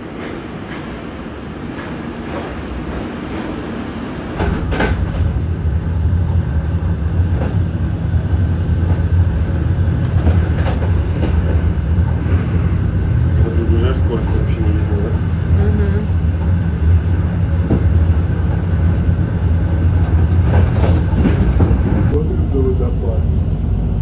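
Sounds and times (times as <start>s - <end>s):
noisy rumble: 4.4s - 24.0s.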